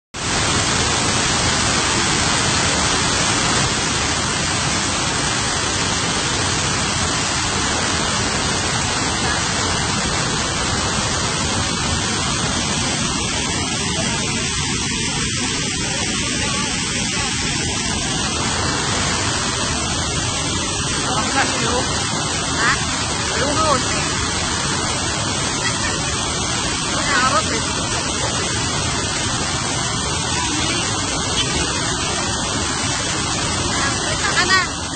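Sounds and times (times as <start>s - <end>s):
water rushing over boulders: 0.1s - 34.9s
waterfall pouring: 0.2s - 34.9s.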